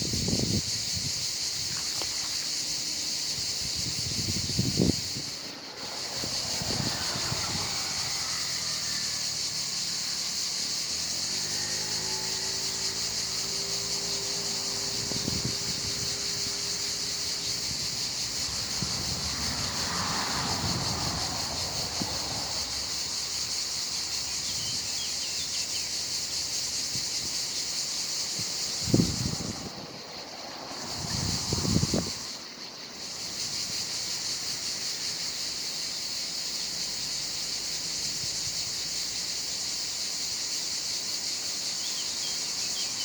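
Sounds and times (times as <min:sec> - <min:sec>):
cicadas chorus: 0:00.0 - 0:43.0.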